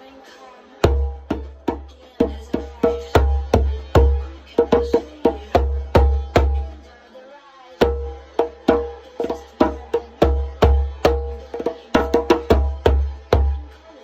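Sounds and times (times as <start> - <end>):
djembe played with bare hands: 0.8 - 6.8, 7.8 - 13.7.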